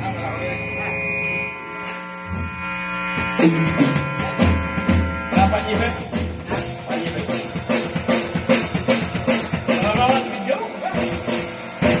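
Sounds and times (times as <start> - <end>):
drum kit steady beat: 0.0 - 12.0
pitched instruments: 0.0 - 12.0.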